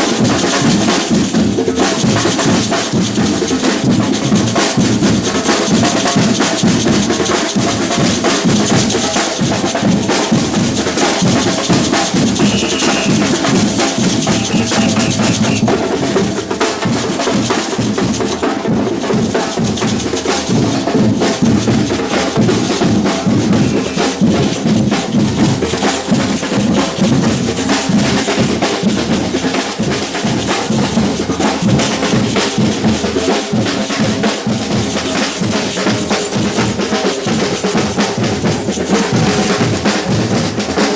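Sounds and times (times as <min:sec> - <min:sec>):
samba drum ensemble: 0:00.0 - 0:40.9.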